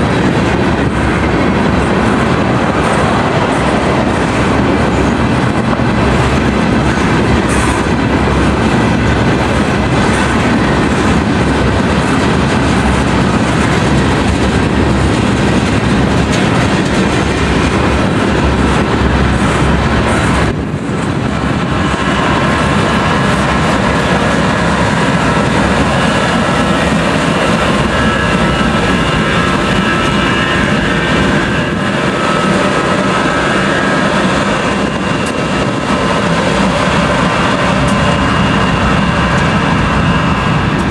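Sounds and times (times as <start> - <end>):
freight train wheels clicking: 0.0 - 40.9.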